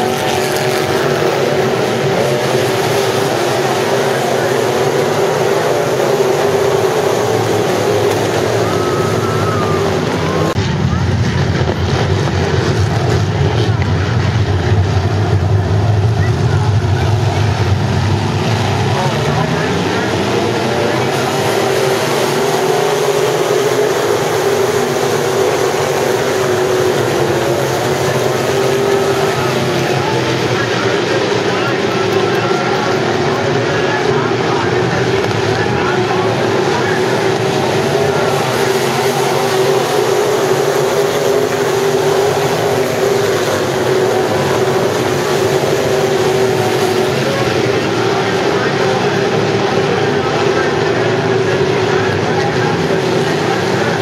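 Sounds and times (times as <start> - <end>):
race car engines droning: 0.0 - 54.0.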